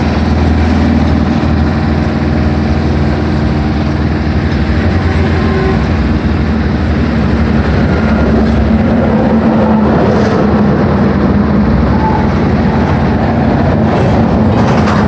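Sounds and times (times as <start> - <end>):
harvester engine humming: 0.0 - 15.0.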